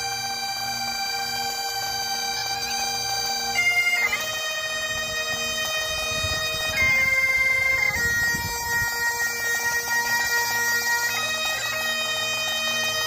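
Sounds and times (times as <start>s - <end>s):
bagpipes playing slow tune: 0.0s - 13.0s.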